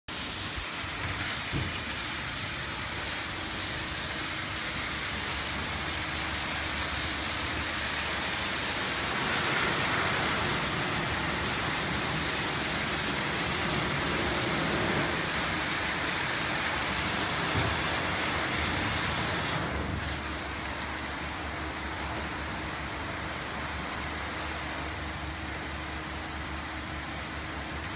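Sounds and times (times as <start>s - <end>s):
water spray hissing: 0.1s - 27.8s
low machine hum: 4.5s - 27.9s.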